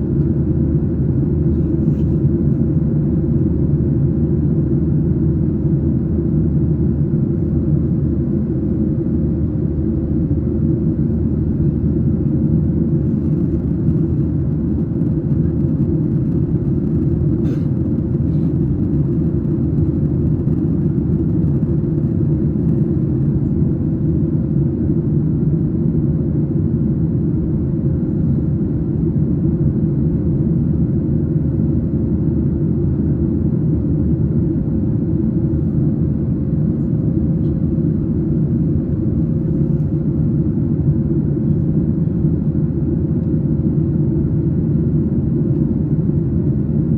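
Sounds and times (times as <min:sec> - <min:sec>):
faint constant hum: 0:00.0 - 0:46.9
jet engine rumble: 0:00.0 - 0:46.9.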